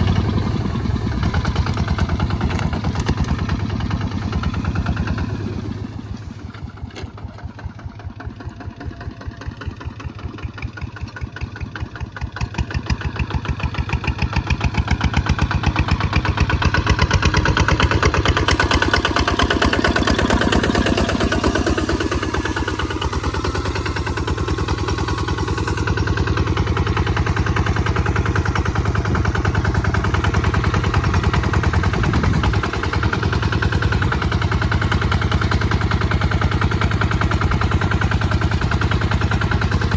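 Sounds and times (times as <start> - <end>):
diesel engine thudding: 0.0 - 39.9.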